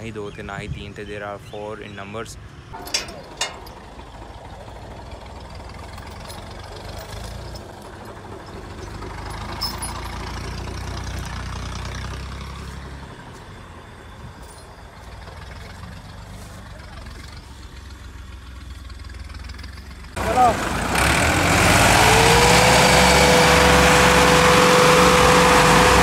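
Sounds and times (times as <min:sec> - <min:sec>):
tractor engine under load: 0:00.0 - 0:26.0.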